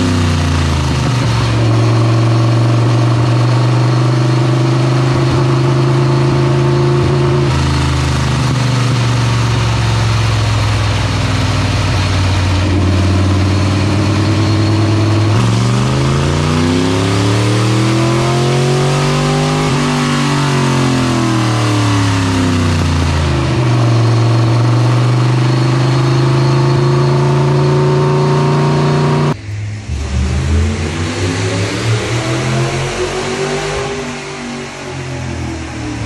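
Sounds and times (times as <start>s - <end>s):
distant engine: 0.0s - 36.0s
race car engine on dyno: 0.0s - 36.0s.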